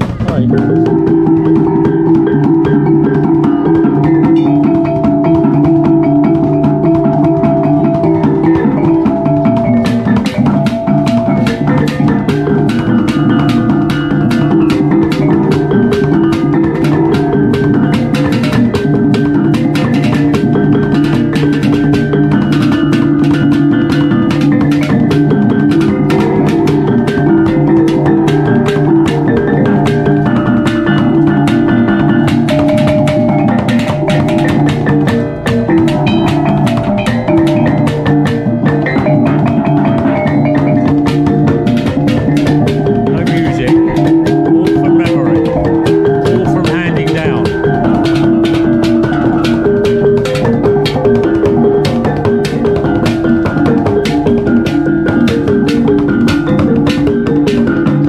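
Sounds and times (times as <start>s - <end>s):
sharp dry strikes: 0.0s - 57.7s
small pot gongs melody: 0.1s - 58.0s.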